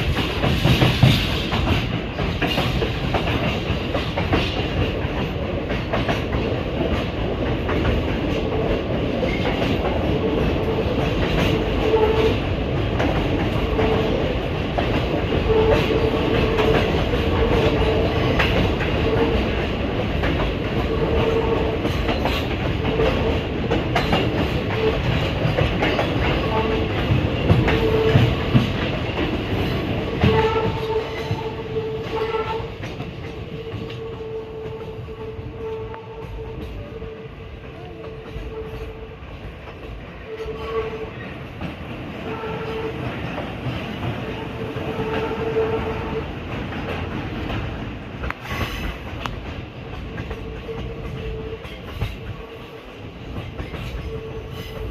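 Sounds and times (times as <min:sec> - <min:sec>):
train clicks and clatter: 0:00.0 - 0:54.9
train wheels rumbling on rails: 0:00.0 - 0:54.9.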